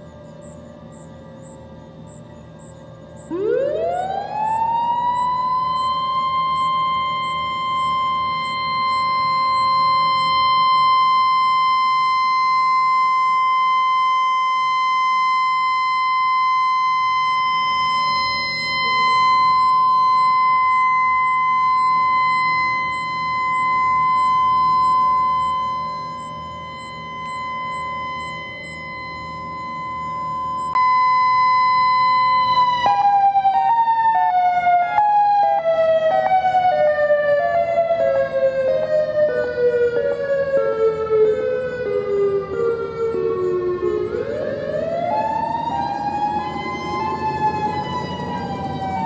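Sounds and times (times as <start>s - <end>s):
tornado warning siren: 0.0s - 49.0s.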